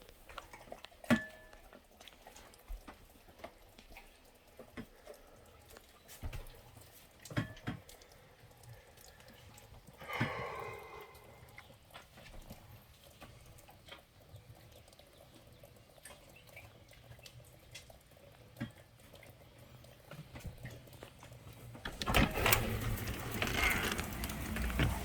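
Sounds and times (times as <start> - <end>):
faint raindrop taps: 0.0 - 25.0.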